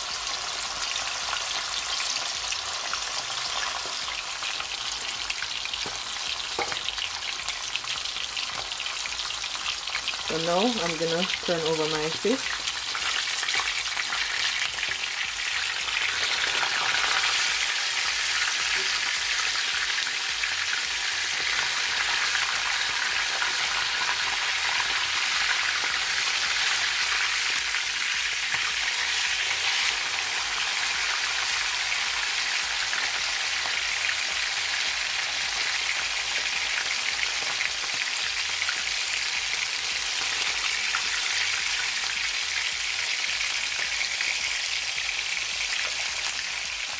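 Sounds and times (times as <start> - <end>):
fish sizzling in oil: 0.0 - 46.9
spatula and fork turning fish: 1.8 - 41.9.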